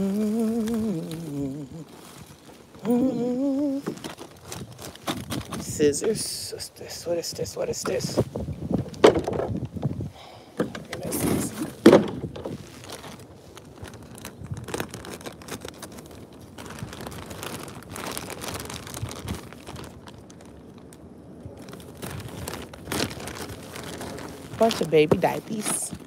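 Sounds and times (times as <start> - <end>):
plastic bags crinkling and rustling: 0.0 - 26.0.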